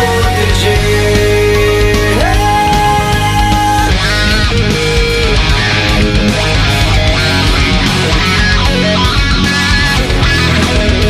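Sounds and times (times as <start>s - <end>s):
loud hard rock music: 0.0s - 11.0s.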